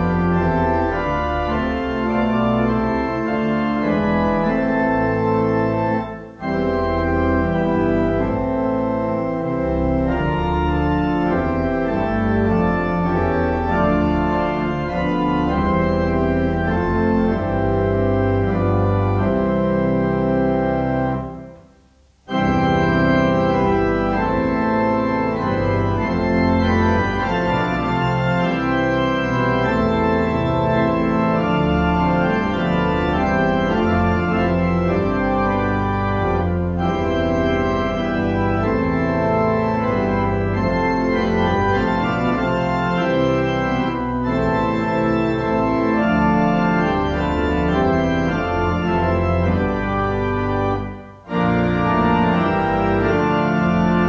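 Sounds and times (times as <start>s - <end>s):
organ playing hymn chords: 0.0s - 54.0s.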